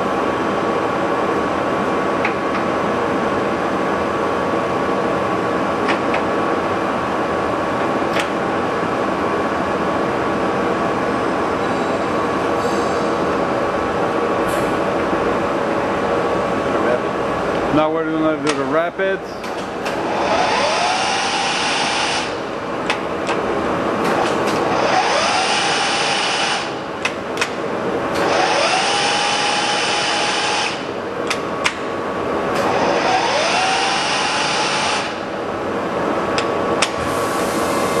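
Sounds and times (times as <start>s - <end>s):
lathe carriage whine: 0.0s - 38.0s.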